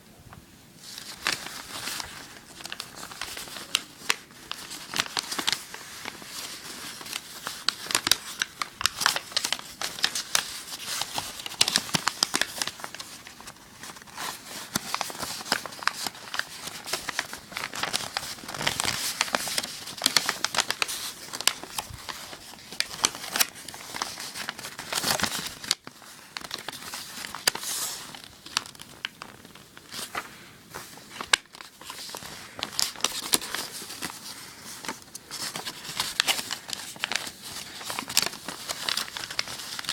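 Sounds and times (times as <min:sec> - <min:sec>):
paper crinkling and rustling: 0:00.8 - 0:39.9.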